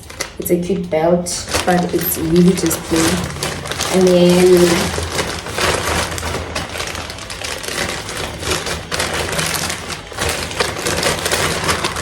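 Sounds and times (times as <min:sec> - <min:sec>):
shopping bag rustling: 0:00.0 - 0:12.0.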